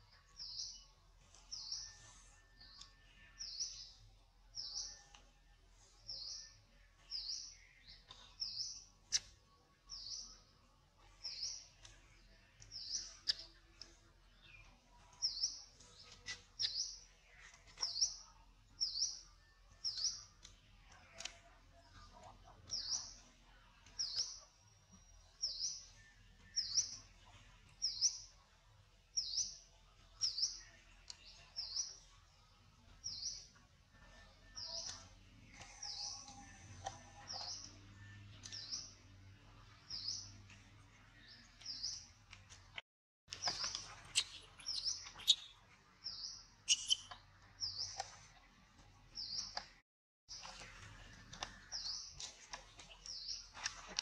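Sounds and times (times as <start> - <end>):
bird chirping: 0.0 - 28.5, 29.1 - 42.3, 43.3 - 48.5, 49.1 - 54.0.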